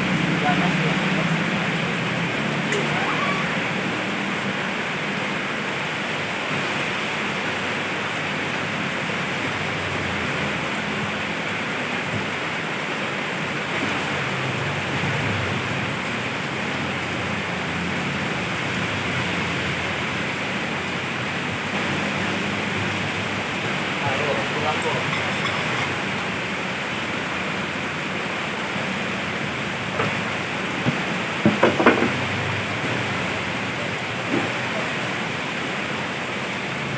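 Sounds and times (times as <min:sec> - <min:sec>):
low rumble of road traffic: 0:00.0 - 0:36.9
steady rain falling: 0:00.0 - 0:36.9.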